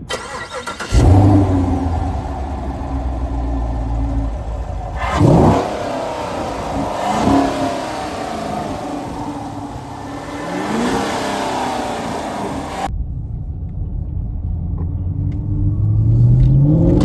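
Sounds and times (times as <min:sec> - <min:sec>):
car engine revving: 0:00.0 - 0:12.9, 0:13.6 - 0:17.0
car engine idling: 0:00.0 - 0:16.4.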